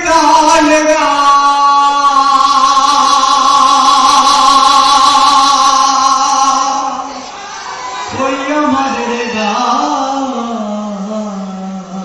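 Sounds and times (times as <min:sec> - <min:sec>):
man singing into a microphone: 0:00.0 - 0:07.3, 0:08.1 - 0:12.0.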